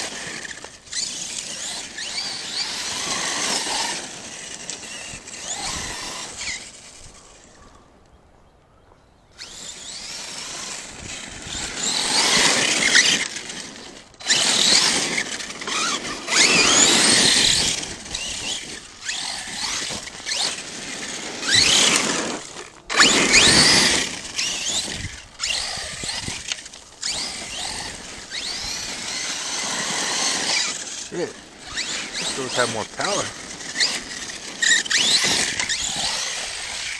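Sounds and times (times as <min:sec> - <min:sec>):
electric motor whining: 0:00.0 - 0:07.6, 0:09.4 - 0:36.9
tyres hissing on loose dirt: 0:00.0 - 0:07.6, 0:09.4 - 0:36.9.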